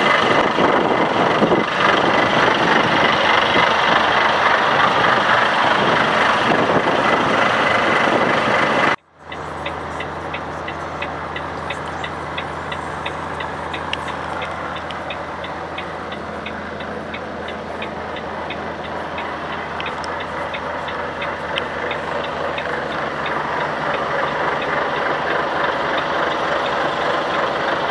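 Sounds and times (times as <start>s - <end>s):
diesel engine idling: 0.0s - 27.9s
light ticking: 0.0s - 27.9s.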